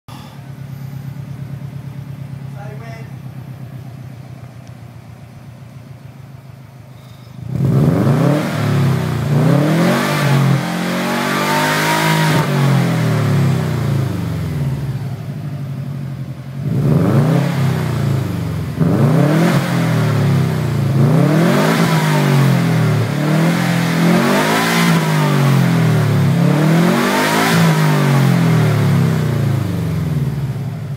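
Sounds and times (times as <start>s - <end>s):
car engine revving: 0.2s - 30.9s.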